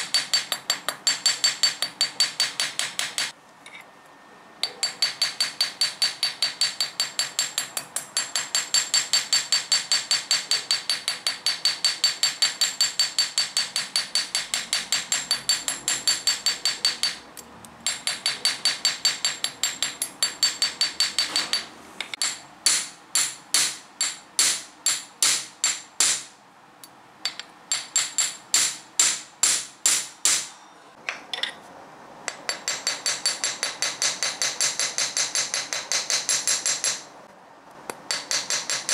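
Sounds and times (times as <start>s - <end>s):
hammer striking wire on anvil: 0.0s - 3.4s, 4.6s - 26.4s, 27.2s - 30.6s, 32.3s - 37.1s, 37.9s - 38.9s.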